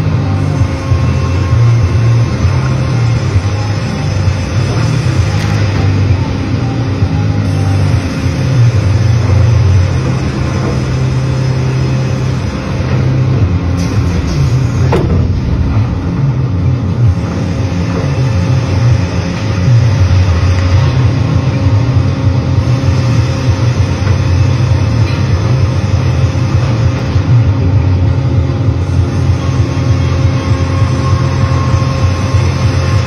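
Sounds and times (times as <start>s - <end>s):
high machine tone: 0.0s - 33.0s
sawmill machinery humming: 0.0s - 33.0s.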